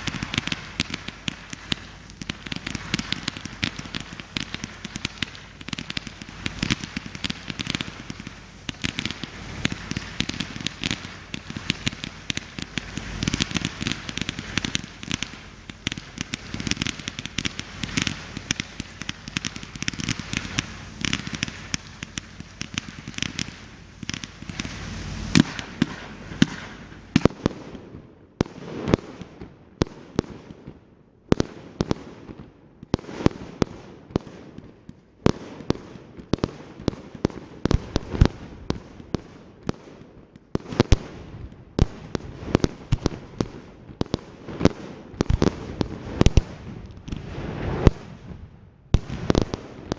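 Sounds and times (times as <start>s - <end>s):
firework bangs: 0.0s - 30.4s, 35.3s - 40.0s, 40.6s - 49.9s
fireworks crackling: 0.0s - 30.5s, 31.4s - 49.9s.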